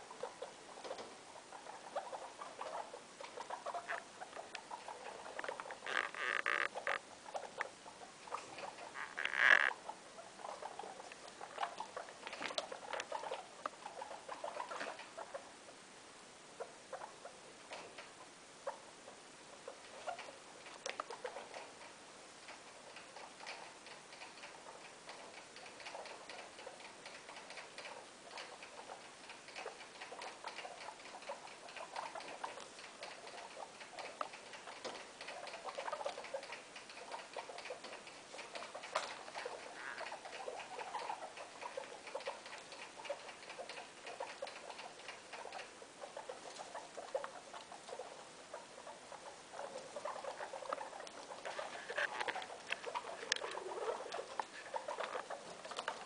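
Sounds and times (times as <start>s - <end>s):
guinea pigs scurrying through hay: 0.0s - 15.5s, 19.5s - 56.0s.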